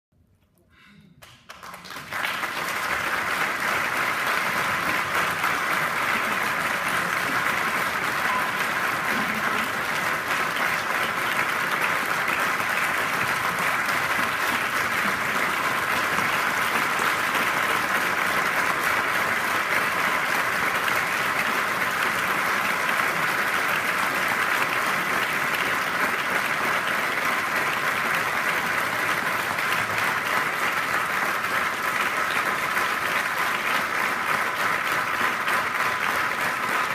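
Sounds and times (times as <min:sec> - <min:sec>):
crowd applause: 0:01.2 - 0:36.9.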